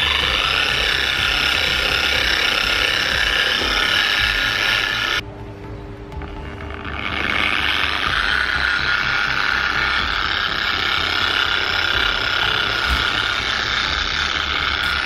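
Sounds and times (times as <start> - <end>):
orbital polisher whirring: 0.0 - 5.2, 6.1 - 15.0.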